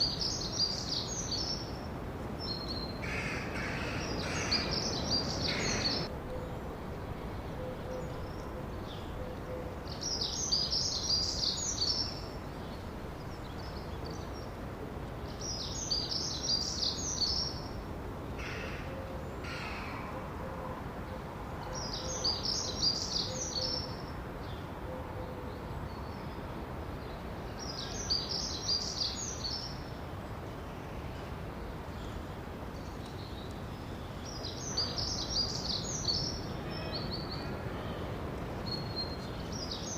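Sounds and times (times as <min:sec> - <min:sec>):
outdoor background hiss: 0:00.0 - 0:39.9
songbird singing: 0:00.0 - 0:39.9.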